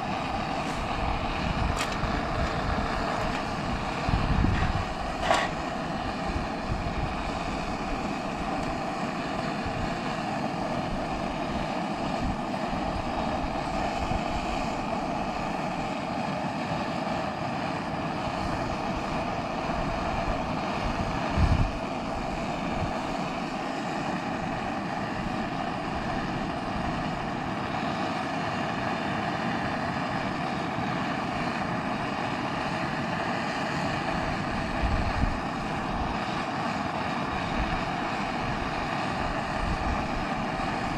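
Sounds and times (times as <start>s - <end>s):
gas burner hissing: 0.0s - 40.9s.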